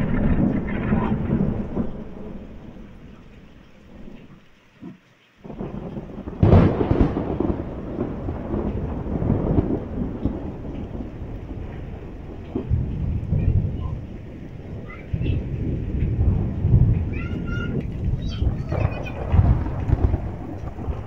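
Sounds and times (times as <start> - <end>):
rain: 0.0 - 21.0
thunder rumbling: 0.0 - 21.0.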